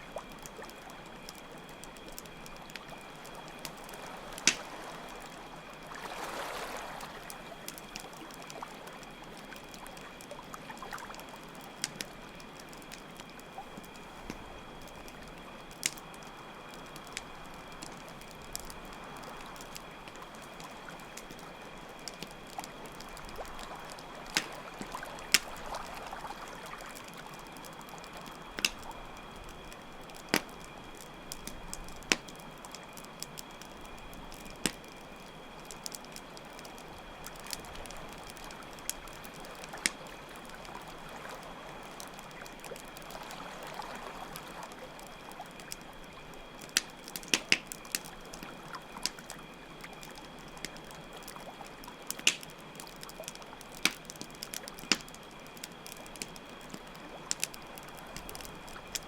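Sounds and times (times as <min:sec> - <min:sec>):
campfire crackling: 0:00.0 - 0:59.0
crickets trilling: 0:00.0 - 0:59.0.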